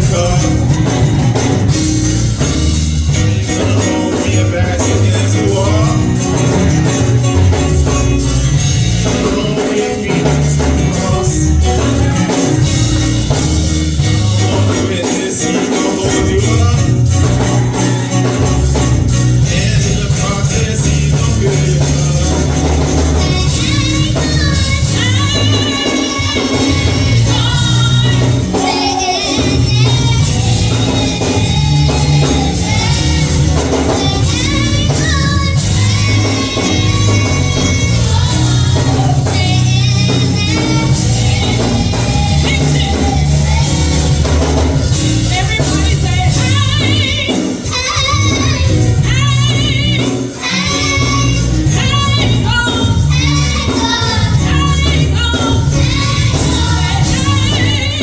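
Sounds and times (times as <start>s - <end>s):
gospel music with heavy bass: 0.0s - 58.0s
voices singing: 0.0s - 58.0s.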